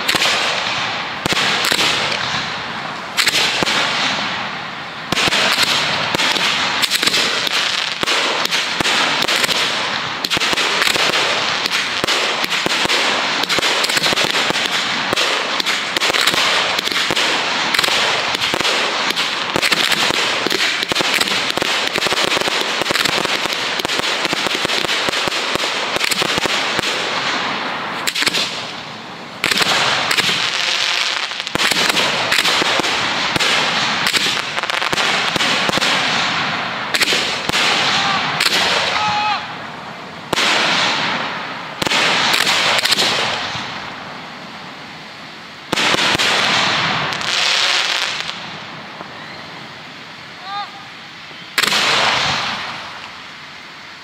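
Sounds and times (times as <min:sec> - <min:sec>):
fireworks barrage: 0:00.0 - 0:54.0
fireworks crackling bursts: 0:00.0 - 0:54.0.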